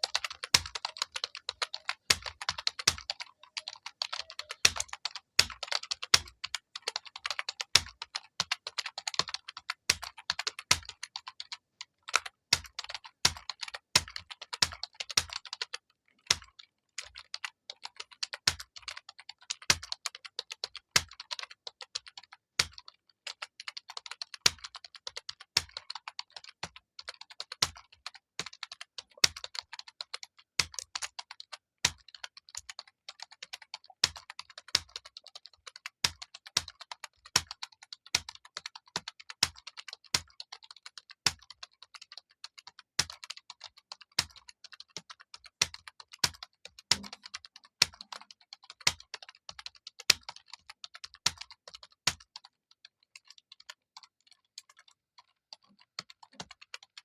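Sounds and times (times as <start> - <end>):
typing on computer keyboard: 0.0 - 57.0.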